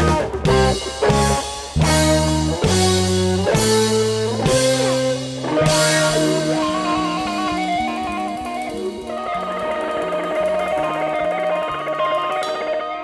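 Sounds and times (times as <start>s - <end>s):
drums with cymbal crashes: 0.0s - 12.6s
guitar playing: 0.0s - 13.0s.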